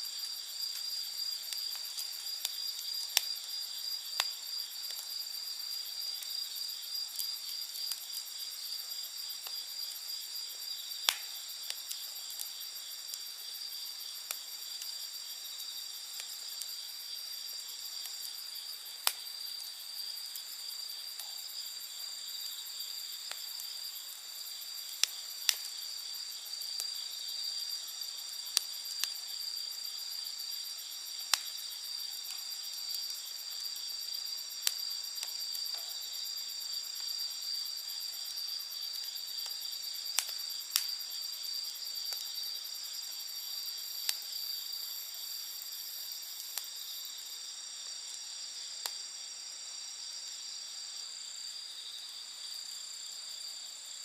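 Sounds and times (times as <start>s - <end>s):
campfire crackling and popping: 0.0s - 49.0s
night insects chirring: 0.0s - 54.0s.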